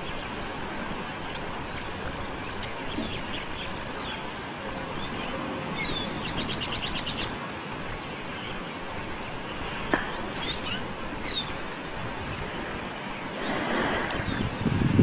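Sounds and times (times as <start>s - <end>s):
steady outdoor hiss: 0.0s - 15.0s
small birds chirping: 1.3s - 14.7s.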